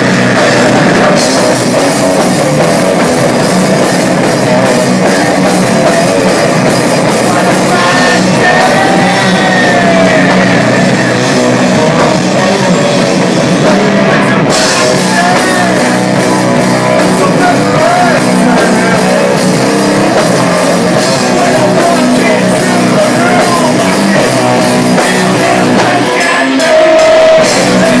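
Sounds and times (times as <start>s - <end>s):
distorted electric guitar: 0.0s - 28.0s
drum kit: 0.0s - 28.0s
person singing: 0.0s - 28.0s.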